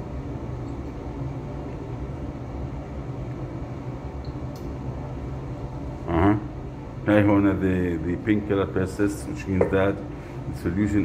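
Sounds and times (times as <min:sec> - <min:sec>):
air handling hum: 0:00.0 - 0:11.0.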